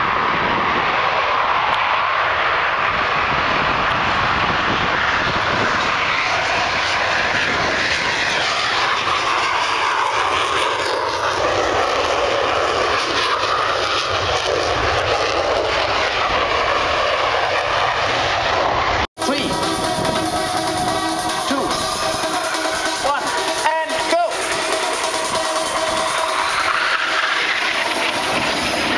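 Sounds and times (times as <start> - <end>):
jet aircraft engine: 0.0 - 28.9.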